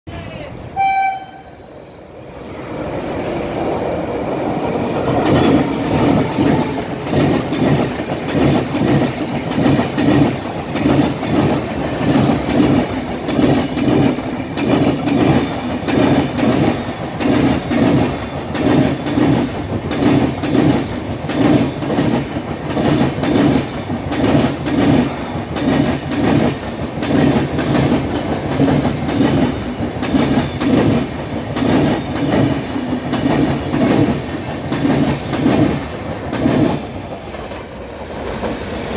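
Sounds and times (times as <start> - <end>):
train wheels clattering over rail joints: 4.4 - 38.9.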